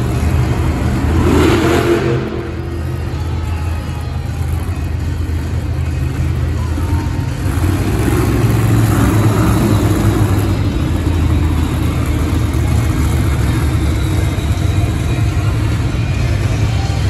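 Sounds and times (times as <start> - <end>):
truck engines idling: 0.0 - 17.0.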